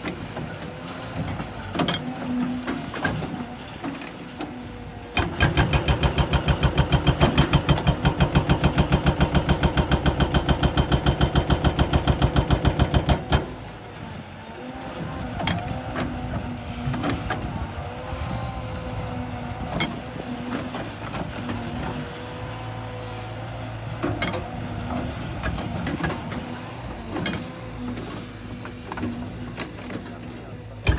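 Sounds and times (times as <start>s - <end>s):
hydraulic breaker pounding rock: 0.0s - 22.8s, 23.8s - 30.9s
excavator humming: 0.0s - 30.9s.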